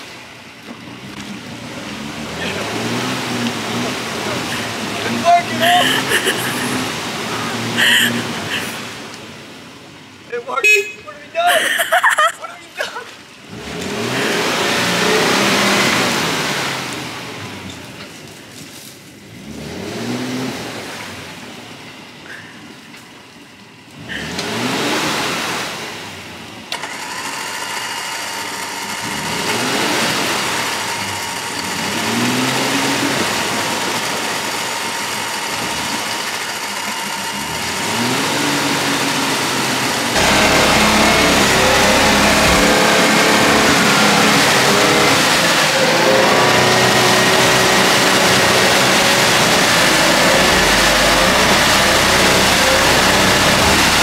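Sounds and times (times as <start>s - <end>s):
vehicle pushing through water: 0.0s - 10.3s, 11.5s - 54.0s
engine revving: 0.8s - 9.0s, 13.5s - 17.8s, 19.3s - 21.3s, 24.0s - 54.0s.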